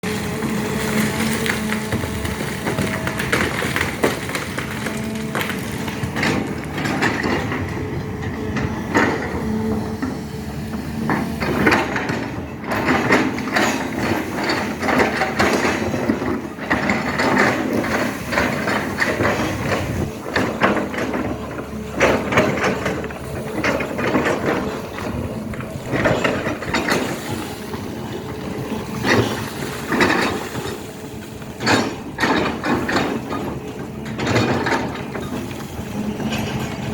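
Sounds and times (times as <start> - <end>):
excavator clanks and knocks: 0.0 - 36.9
excavator engine hum: 0.0 - 36.9.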